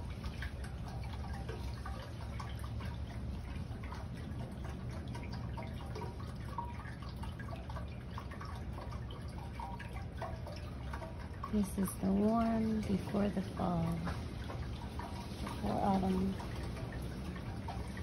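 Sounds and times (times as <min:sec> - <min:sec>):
fountain water trickling and splashing: 0:00.0 - 0:18.0.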